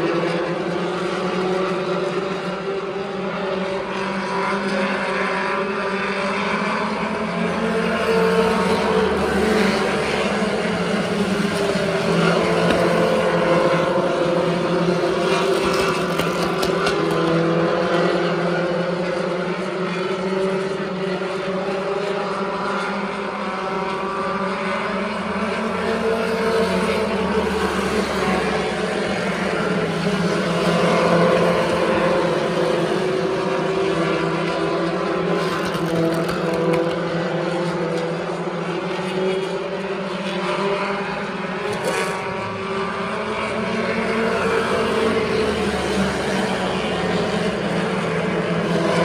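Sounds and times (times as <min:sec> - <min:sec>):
race car engines passing: 0:00.0 - 0:49.0.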